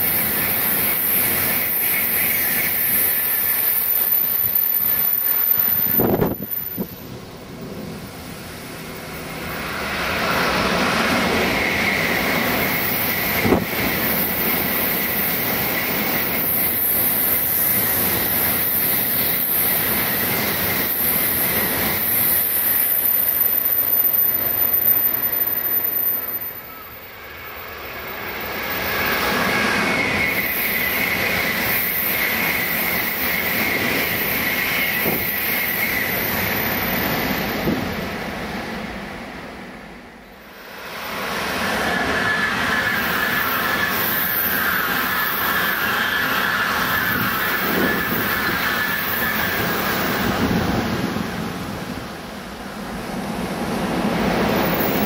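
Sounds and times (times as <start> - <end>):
high-speed train passing: 0.0 - 55.0.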